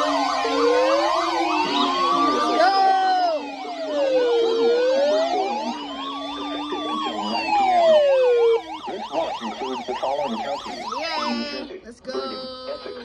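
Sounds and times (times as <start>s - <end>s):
alarm fast warbling tones: 0.0s - 12.4s
alarm slow wailing tone: 0.0s - 13.0s.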